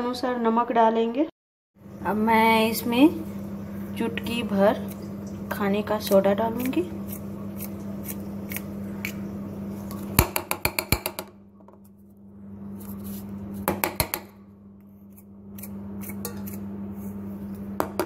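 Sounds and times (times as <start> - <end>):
steady low hum: 1.8 - 18.0.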